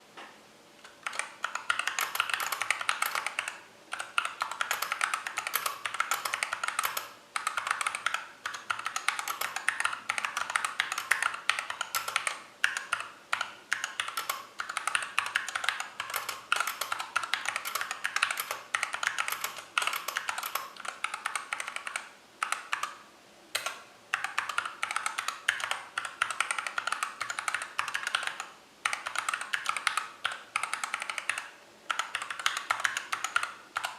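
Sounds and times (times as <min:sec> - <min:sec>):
mechanical keyboard typing: 0:00.8 - 0:23.0, 0:23.6 - 0:33.9.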